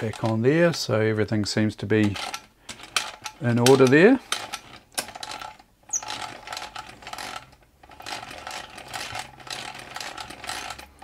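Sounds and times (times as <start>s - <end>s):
toy sewing machine gears rattling: 2.0s - 11.0s.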